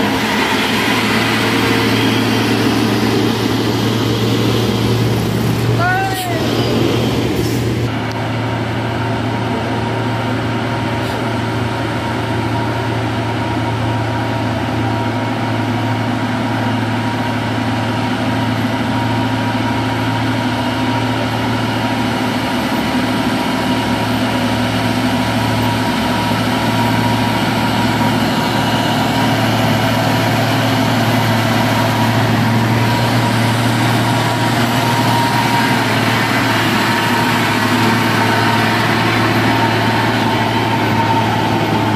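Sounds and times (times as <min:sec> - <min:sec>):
large truck engine running: 0:00.0 - 0:41.9.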